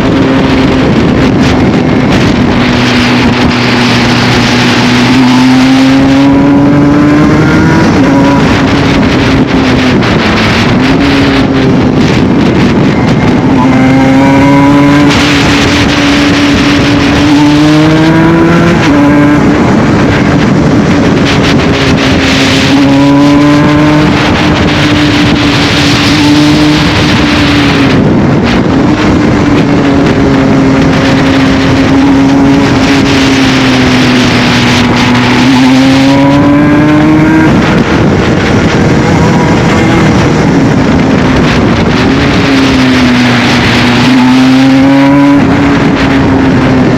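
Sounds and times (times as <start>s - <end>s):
two-stroke motorcycle at high revs: 0.0s - 46.9s.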